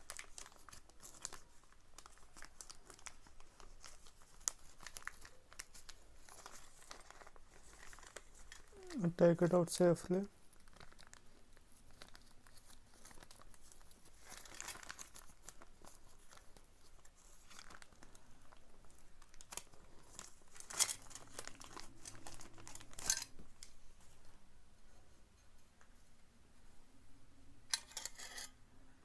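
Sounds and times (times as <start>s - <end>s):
packaging crinkling: 0.0s - 24.2s.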